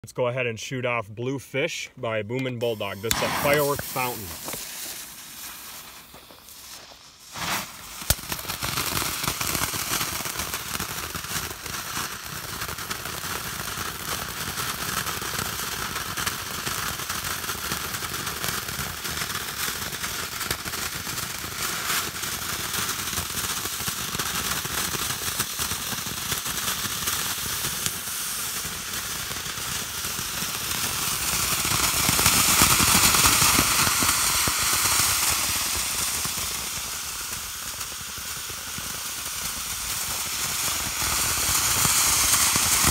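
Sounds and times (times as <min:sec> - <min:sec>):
firework fountain hissing and crackling: 0:02.6 - 0:42.9.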